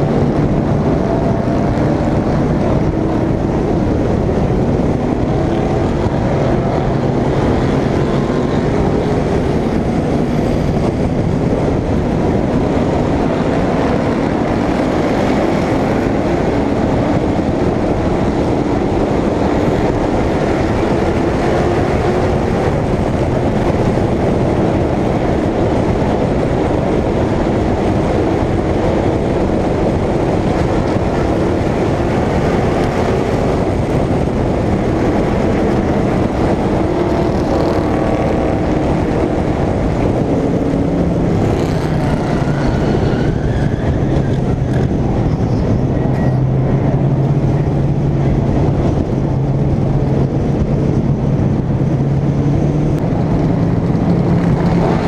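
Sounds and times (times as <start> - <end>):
race car engine running hard: 0.0 - 55.0.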